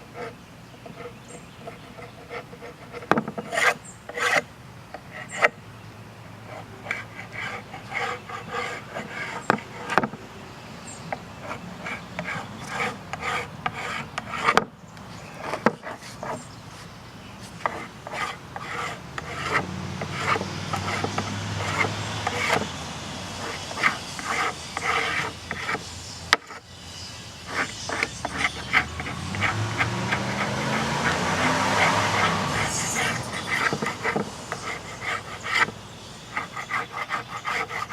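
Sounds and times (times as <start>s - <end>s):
hand tool scraping wood: 0.0s - 5.6s, 6.4s - 10.2s, 11.4s - 14.7s, 15.3s - 37.9s.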